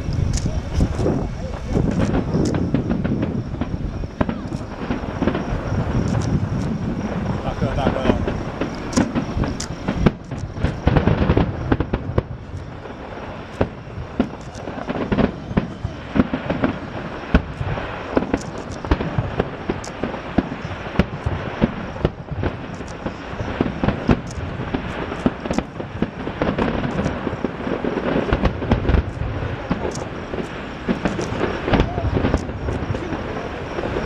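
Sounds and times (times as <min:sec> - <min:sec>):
fireworks bursting and crackling: 0:00.0 - 0:34.0
low rumble: 0:00.0 - 0:34.0.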